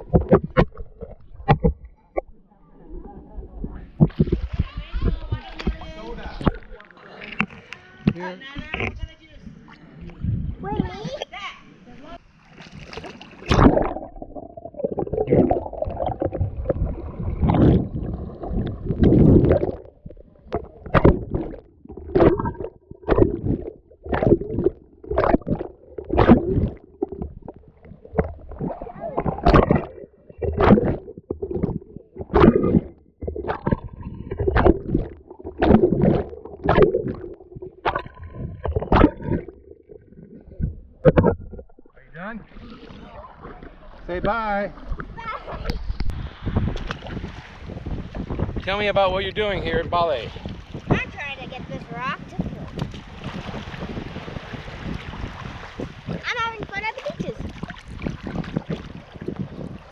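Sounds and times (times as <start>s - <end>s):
low gurgling rumble: 0.0s - 7.6s, 8.6s - 59.9s
water sloshing and splashing: 0.0s - 59.9s.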